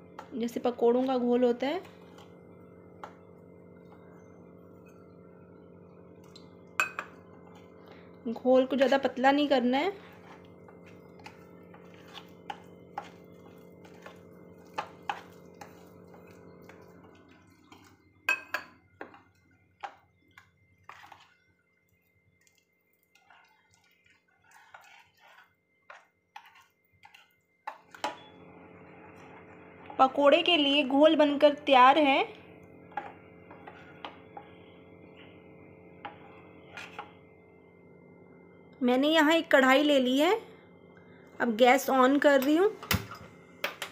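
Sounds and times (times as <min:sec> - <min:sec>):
faint steady hum: 0:00.0 - 0:43.9
spoon stirring thick batter: 0:00.1 - 0:37.3.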